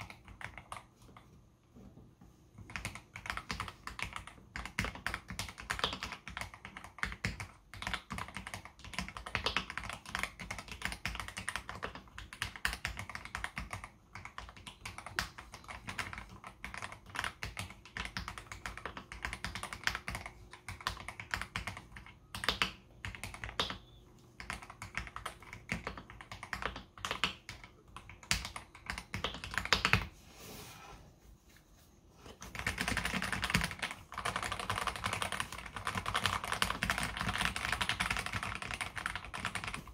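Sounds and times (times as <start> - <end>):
mechanical keyboard typing: 0.0 - 0.9, 2.6 - 30.1, 32.4 - 39.9.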